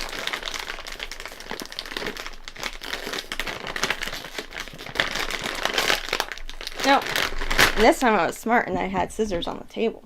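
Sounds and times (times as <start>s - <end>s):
plastic snack bag crinkling: 0.0s - 8.5s.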